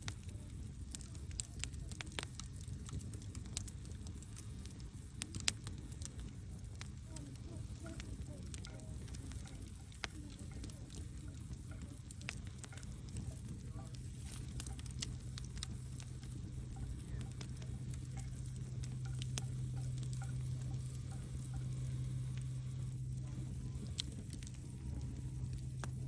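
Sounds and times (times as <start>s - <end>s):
logs crackling in fireplace: 0.0s - 26.0s
low rumble and hum: 0.0s - 26.0s.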